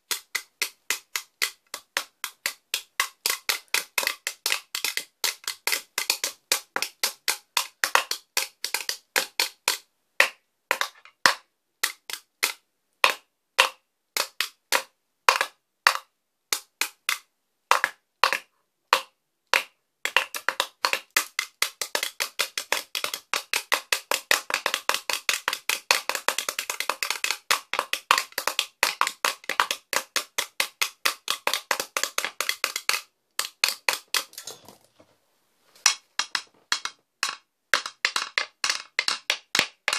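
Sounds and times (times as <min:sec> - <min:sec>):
drumsticks beating on wooden stool: 0:00.1 - 0:34.7, 0:35.8 - 0:39.9.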